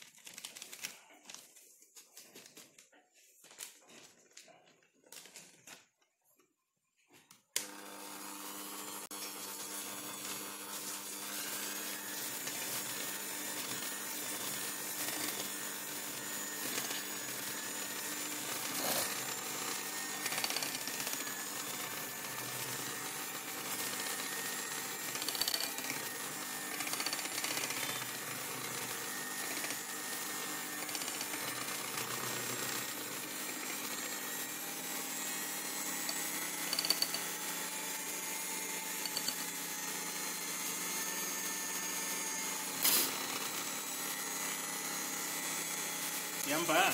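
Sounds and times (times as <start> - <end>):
electric hand mixer running: 7.6 - 46.9.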